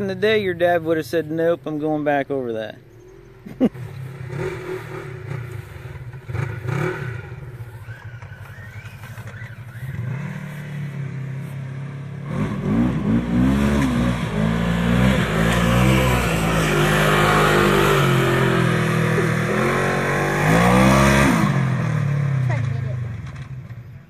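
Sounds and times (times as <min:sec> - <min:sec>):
engine revving: 0:02.7 - 0:24.0.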